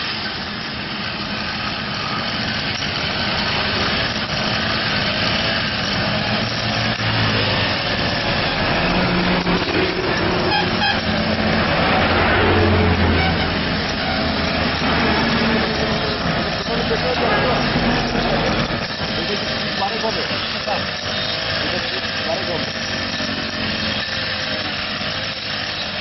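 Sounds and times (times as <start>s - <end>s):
blade cutting grass: 0.0s - 26.0s
brush cutter engine running: 0.0s - 26.0s.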